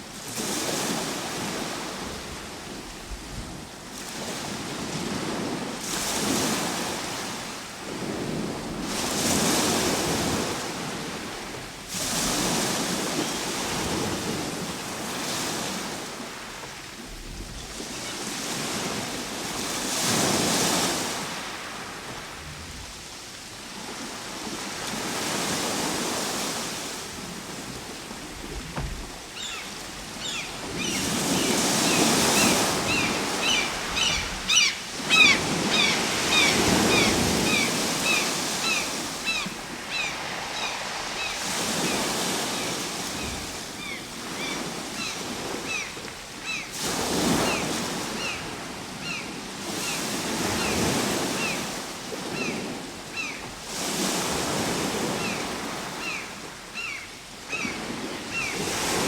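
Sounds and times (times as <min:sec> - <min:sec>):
ocean surf washing ashore: 0:00.0 - 0:56.7, 0:57.4 - 0:59.0.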